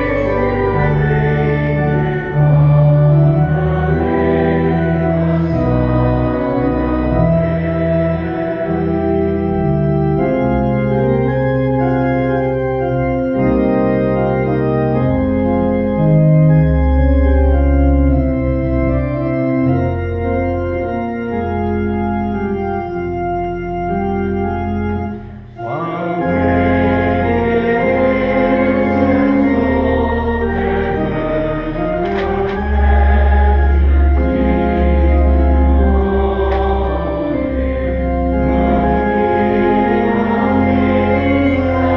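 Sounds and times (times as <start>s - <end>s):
church organ playing chords: 0.0s - 41.9s.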